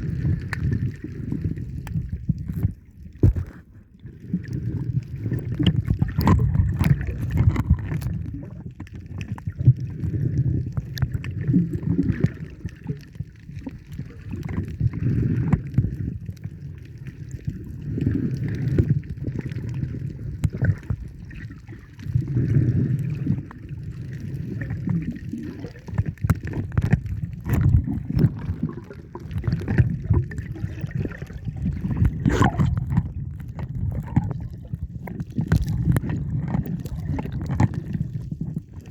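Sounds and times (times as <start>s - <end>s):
water sloshing and gurgling: 0.0s - 38.9s.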